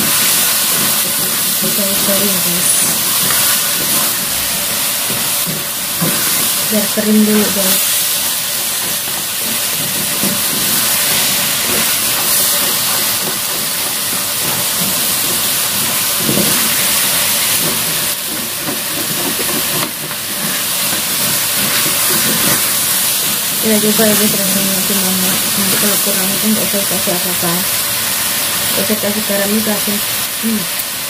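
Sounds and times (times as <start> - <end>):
spatula scraping wok: 0.0 - 29.0
food sizzling in a wok: 0.0 - 31.0.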